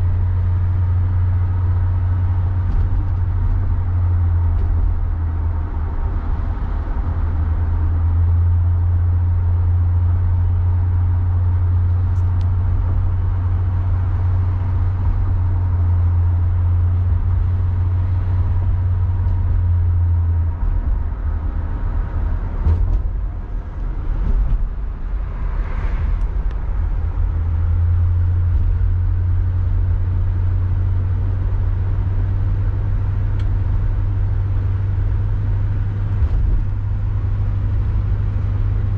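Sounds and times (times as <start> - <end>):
car engine and road drone: 0.0 - 38.9.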